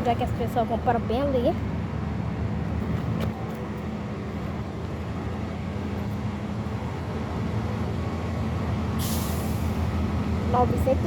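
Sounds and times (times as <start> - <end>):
freight train on rails: 0.0 - 11.0.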